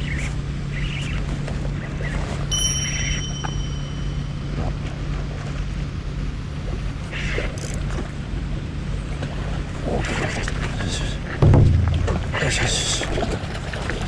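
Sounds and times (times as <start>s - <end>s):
wind: 0.0s - 14.0s
boat engine droning: 0.2s - 14.0s.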